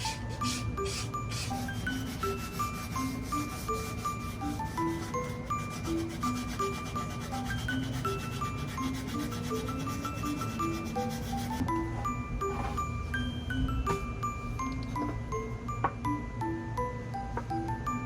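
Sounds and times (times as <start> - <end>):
gentle bell-like melody: 0.0 - 18.0.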